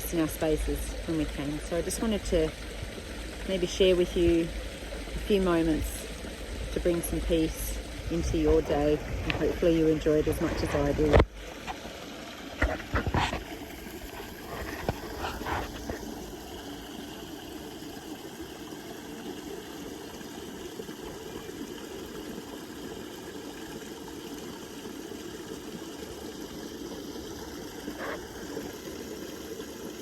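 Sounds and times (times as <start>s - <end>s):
creek trickling over stones: 0.0s - 30.0s.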